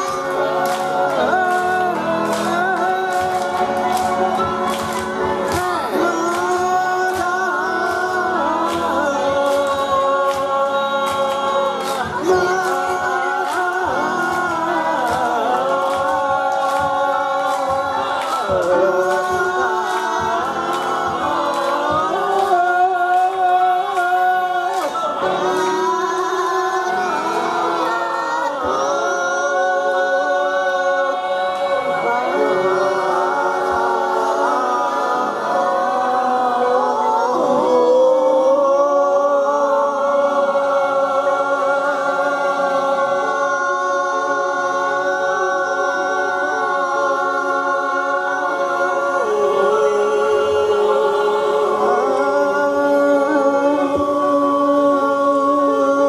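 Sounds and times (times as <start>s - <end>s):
group singing unaccompanied: 0.0s - 56.0s
people clapping a beat: 0.0s - 56.0s.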